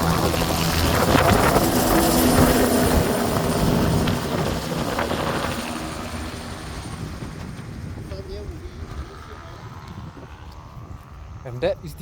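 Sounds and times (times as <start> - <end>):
helicopter rotor and turbine: 0.0 - 12.0.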